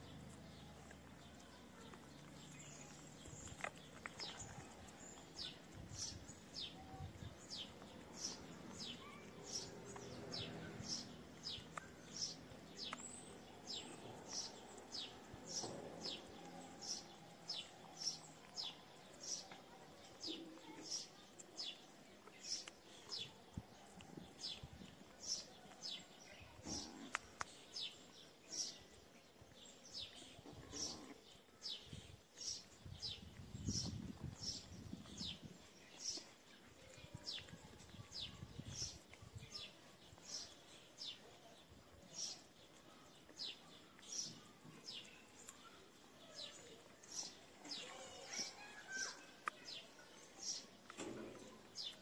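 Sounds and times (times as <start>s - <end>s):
small bird chirping: 0.0s - 29.0s, 29.6s - 52.0s.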